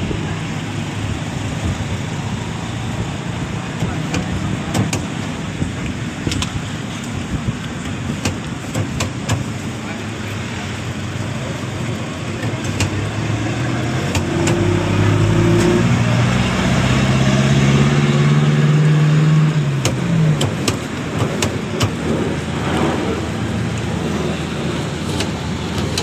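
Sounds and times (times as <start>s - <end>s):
street hum: 0.0s - 26.0s
vehicle engine running: 0.0s - 26.0s.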